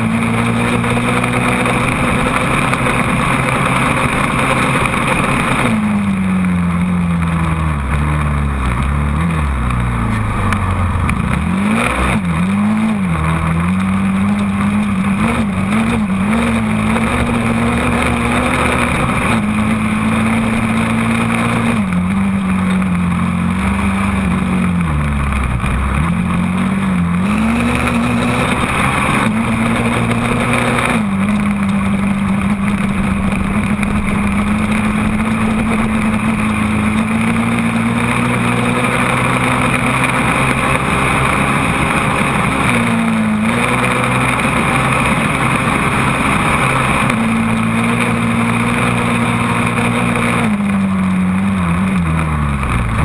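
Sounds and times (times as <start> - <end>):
quad engine revving under load: 0.0 - 53.0.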